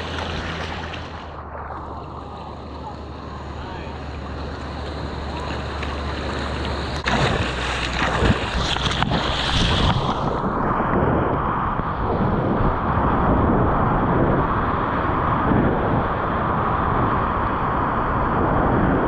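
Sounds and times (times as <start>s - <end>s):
ocean water rushing: 0.0s - 18.3s
wind buffeting camera: 0.0s - 19.0s.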